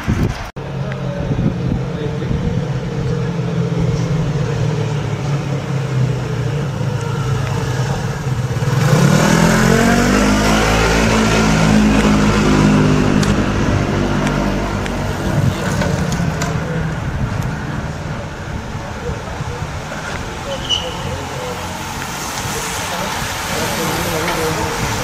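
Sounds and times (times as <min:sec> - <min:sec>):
vehicle engine revving: 0:00.6 - 0:25.0.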